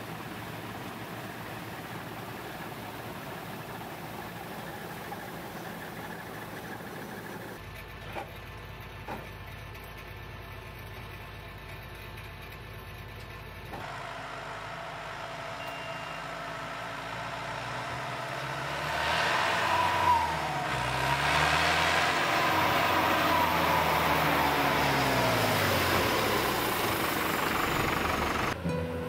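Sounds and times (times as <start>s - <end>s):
quiet engine hum: 0.0s - 29.0s
tractor diesel engine approaching: 0.0s - 29.0s.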